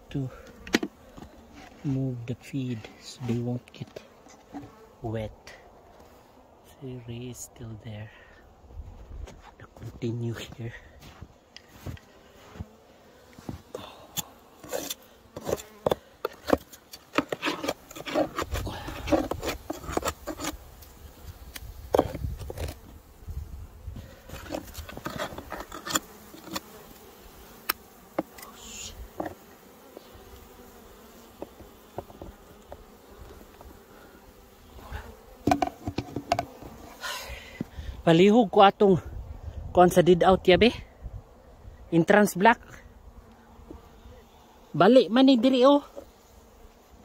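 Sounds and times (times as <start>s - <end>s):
honeybees buzzing: 0.0s - 9.1s, 10.4s - 47.0s
knocks and scraping on hive: 0.1s - 5.0s, 8.8s - 37.9s, 43.3s - 47.0s.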